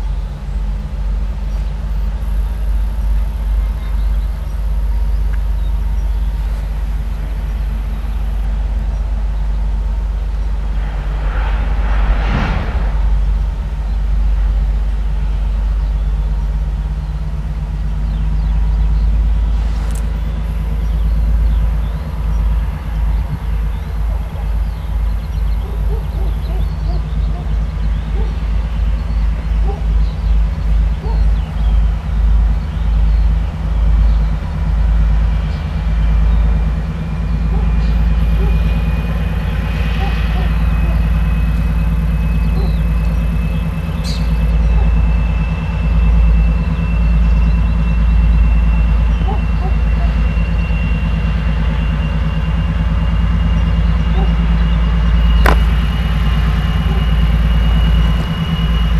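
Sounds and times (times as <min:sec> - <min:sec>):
diesel locomotive engine drone: 0:00.0 - 0:58.9.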